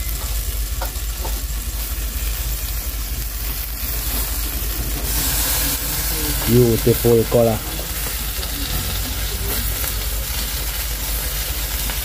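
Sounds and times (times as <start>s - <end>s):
low rumble: 0.0s - 11.2s
lobster sizzling on a grill: 0.0s - 12.0s.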